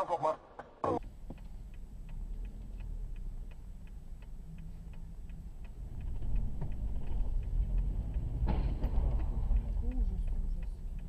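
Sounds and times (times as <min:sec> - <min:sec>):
engine and road rumble: 0:00.0 - 0:11.0
turn signal clicking: 0:01.0 - 0:11.0.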